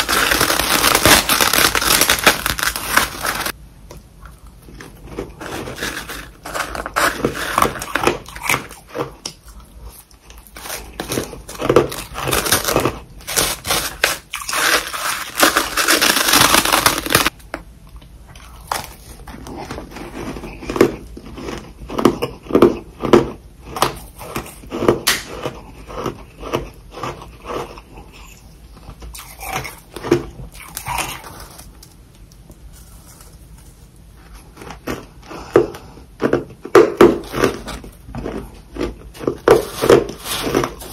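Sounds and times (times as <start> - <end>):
chewing crunchy frost: 4.2 - 17.4, 18.3 - 32.0, 32.6 - 40.9.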